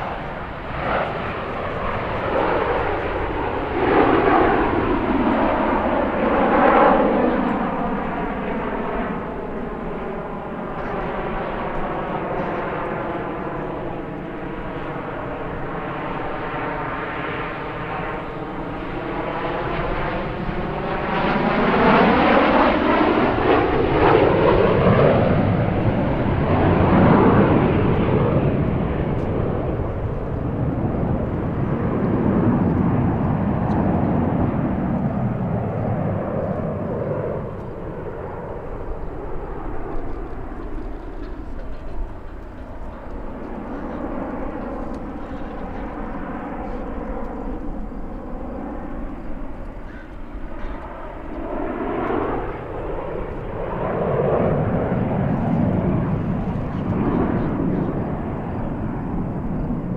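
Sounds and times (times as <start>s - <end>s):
jets flying past: 0.0s - 59.9s.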